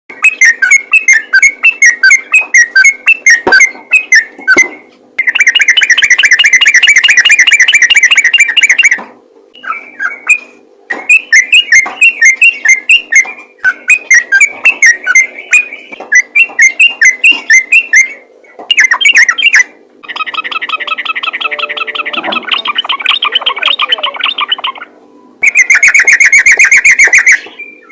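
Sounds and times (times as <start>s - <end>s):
bird chattering trill: 0.1s - 9.0s, 9.6s - 27.9s
bird singing whistled notes: 0.2s - 9.0s, 9.6s - 24.8s.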